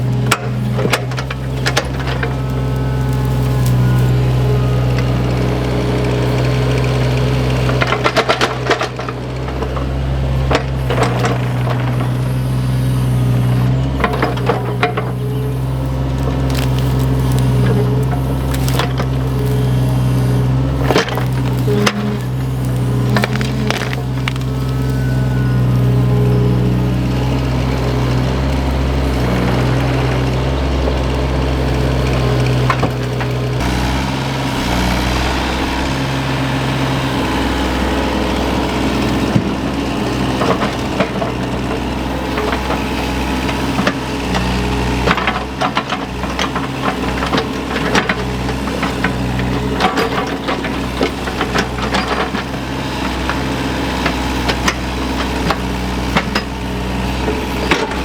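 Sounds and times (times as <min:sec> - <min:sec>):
small machine engine running: 0:00.0 - 0:58.0.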